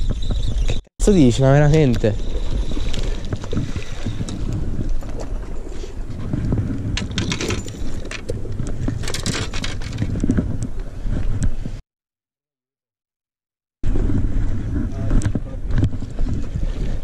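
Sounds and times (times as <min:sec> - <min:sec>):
wind buffeting microphone: 0:00.0 - 0:11.8, 0:13.8 - 0:17.0.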